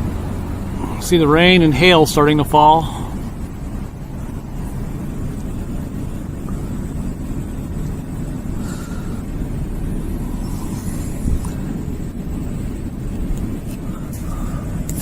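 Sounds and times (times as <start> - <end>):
car cabin road and engine noise: 0.0 - 15.0.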